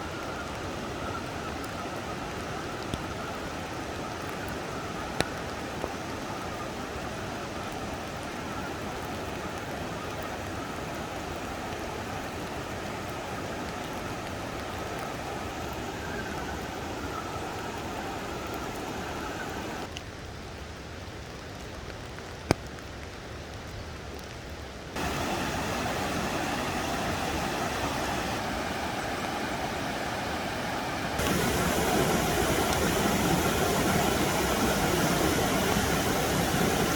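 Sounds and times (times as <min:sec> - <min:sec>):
running water rushing: 0:00.0 - 0:19.9, 0:25.0 - 0:36.9.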